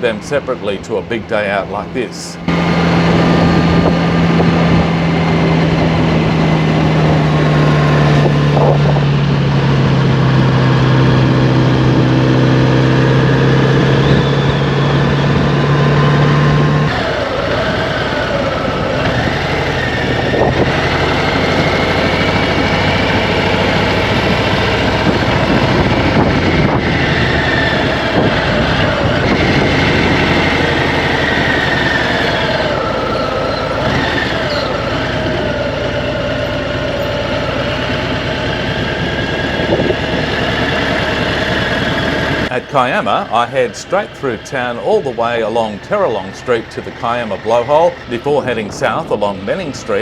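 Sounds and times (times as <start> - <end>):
wind and road noise: 0.0 - 50.0
motorcycle engine running: 2.4 - 42.5.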